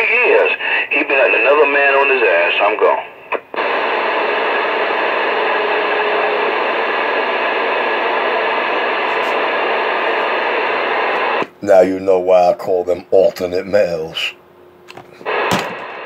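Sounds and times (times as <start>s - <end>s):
radio static hiss: 0.0s - 14.4s, 15.1s - 16.0s.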